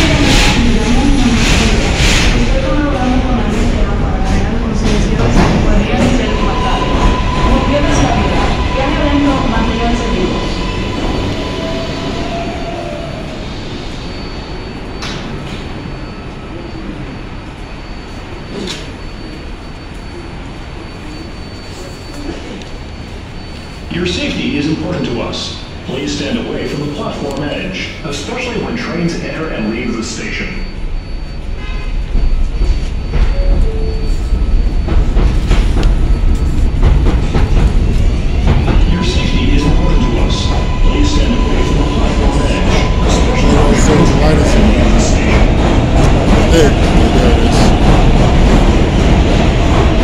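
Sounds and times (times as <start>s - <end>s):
subway train rumbling to a stop: 0.0s - 50.0s.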